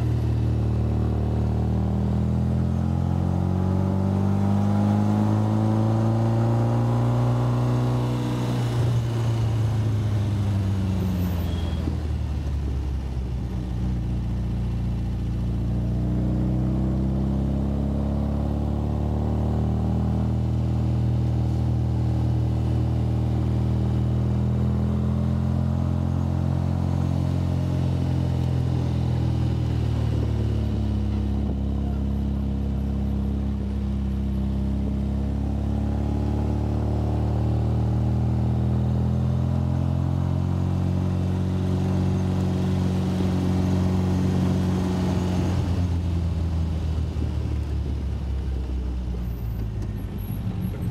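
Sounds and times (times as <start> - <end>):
sports car engine under load: 0.0 - 50.9.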